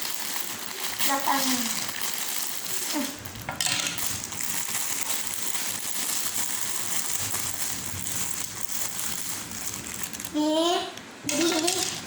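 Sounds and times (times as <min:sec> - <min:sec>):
plastic packaging crinkling: 0:00.0 - 0:10.4, 0:11.3 - 0:12.0.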